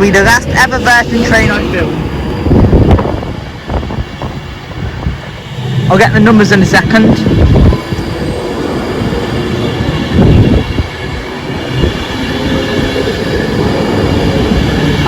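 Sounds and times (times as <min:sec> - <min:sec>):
train wheels rumbling past: 0:00.0 - 0:15.0.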